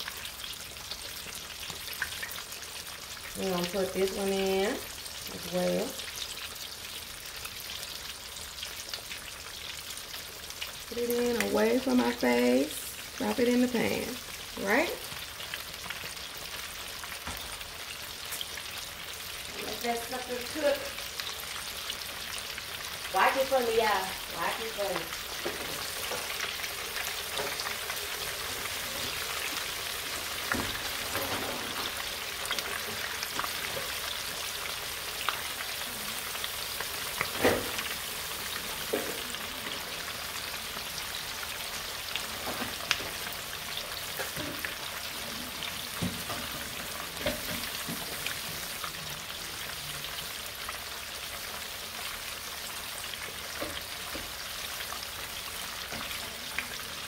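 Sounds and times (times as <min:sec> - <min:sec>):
deep-frying bubbling sizzle: 0:00.0 - 0:57.0.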